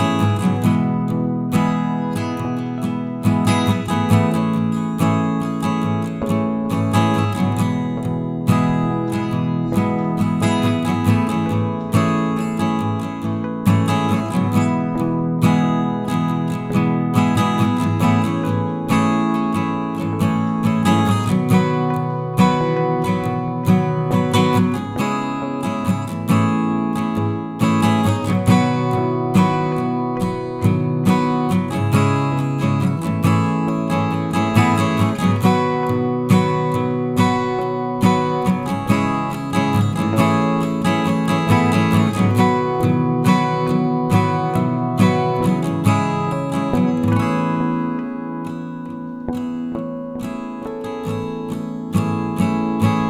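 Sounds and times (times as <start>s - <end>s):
strummed acoustic guitar: 0.0s - 53.0s.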